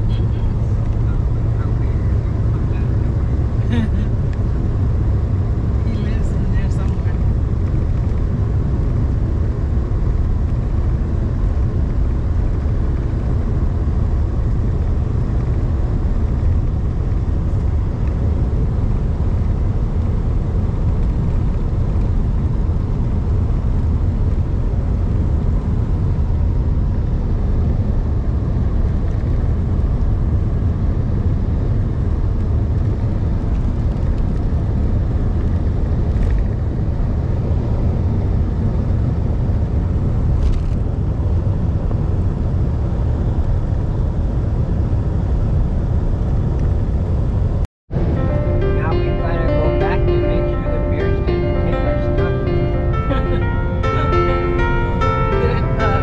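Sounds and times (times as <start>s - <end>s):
moving vehicle rumble: 0.0s - 56.0s.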